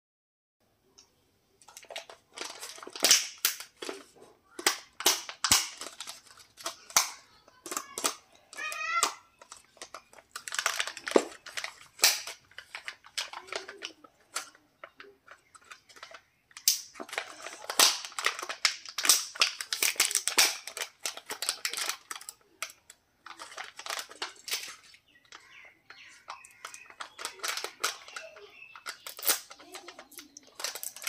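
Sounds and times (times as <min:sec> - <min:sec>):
foil wrapper crinkling: 0:01.6 - 0:31.0.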